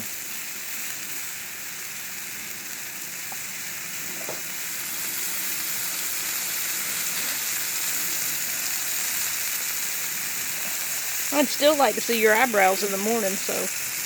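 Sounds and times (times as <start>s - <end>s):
oil sizzling on a griddle: 0.0s - 14.0s.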